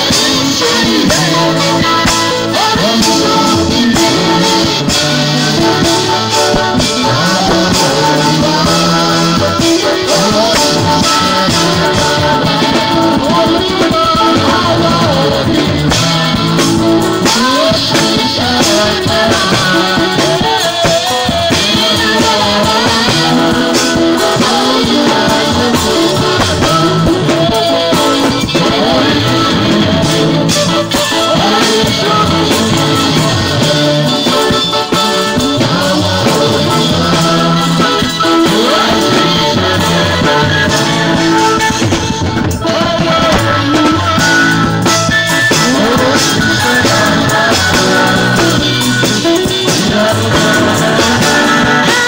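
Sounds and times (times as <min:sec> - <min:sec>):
drum toms and cymbals: 0:00.0 - 0:52.0
guitar: 0:00.0 - 0:52.0
live band music: 0:00.0 - 0:52.0
people singing: 0:00.0 - 0:52.0.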